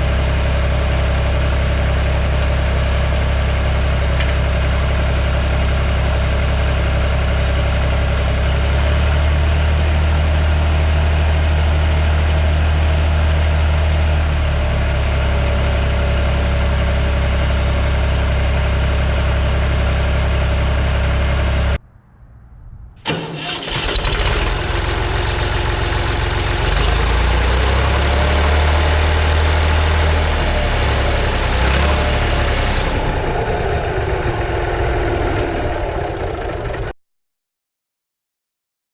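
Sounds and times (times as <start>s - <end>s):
tractor engine running: 0.0s - 21.8s, 22.6s - 37.0s.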